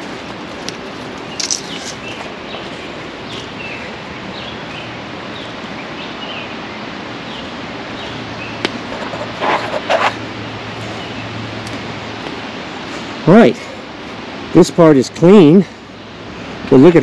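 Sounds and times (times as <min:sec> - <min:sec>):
birds chirping: 0:00.0 - 0:17.0
steady background hiss: 0:00.0 - 0:17.0.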